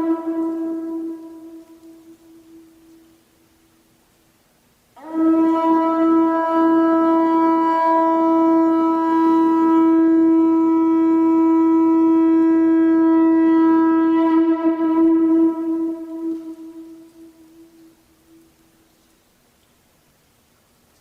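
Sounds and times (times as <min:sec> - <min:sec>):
conch shell trumpet note: 0:00.0 - 0:03.2, 0:05.0 - 0:18.8.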